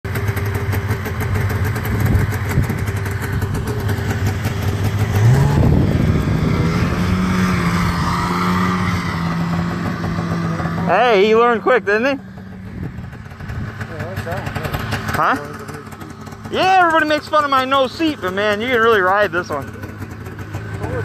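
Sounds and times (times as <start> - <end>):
snowmobile engine running: 0.1 - 21.0.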